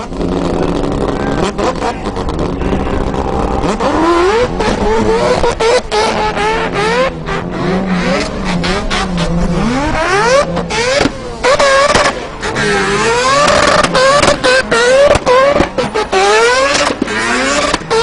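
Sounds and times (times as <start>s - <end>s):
car engines revving hard: 0.0s - 18.0s
engine holding steady revs: 0.0s - 18.0s.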